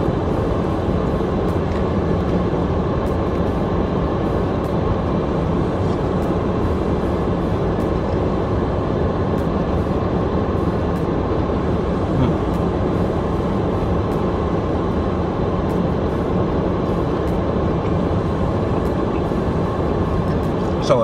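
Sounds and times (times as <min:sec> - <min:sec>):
rushing noise inside car cabin: 0:00.0 - 0:21.0.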